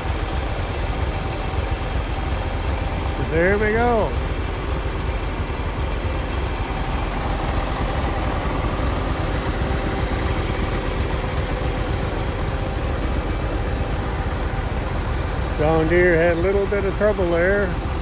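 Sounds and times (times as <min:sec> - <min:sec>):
garden tractor engine idling: 0:00.0 - 0:18.0.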